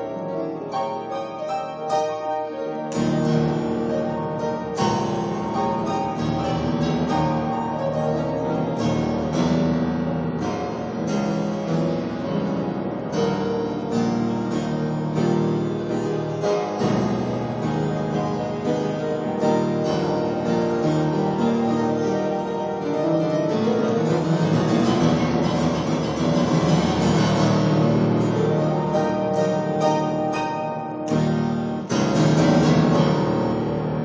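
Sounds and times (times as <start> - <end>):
grand piano improvisation: 0.0 - 34.0.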